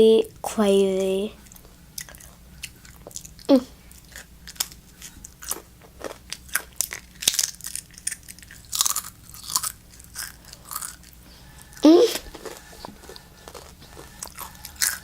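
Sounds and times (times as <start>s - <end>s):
chips crunched and chewed: 1.5s - 11.2s, 12.2s - 15.0s.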